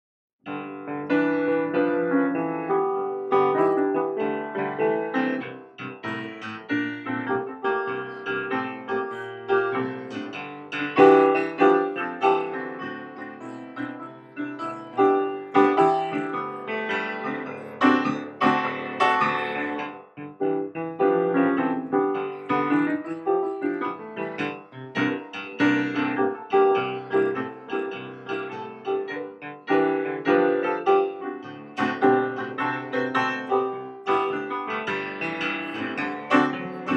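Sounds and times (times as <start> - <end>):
solo piano music: 0.5 - 36.9.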